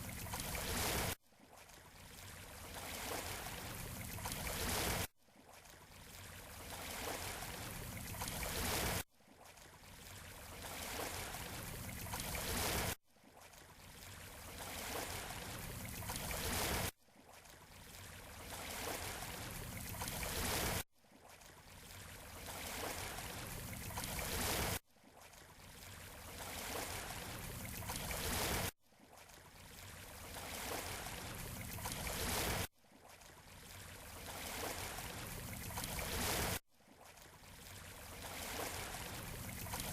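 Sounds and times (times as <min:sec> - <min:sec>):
waves washing on shore: 0:00.0 - 0:17.0, 0:17.6 - 0:20.8, 0:21.6 - 0:24.8, 0:25.4 - 0:39.9.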